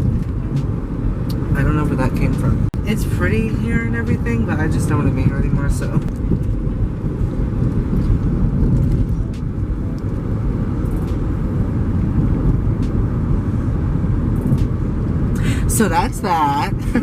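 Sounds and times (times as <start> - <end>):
road noise inside a car: 0.0 - 17.0.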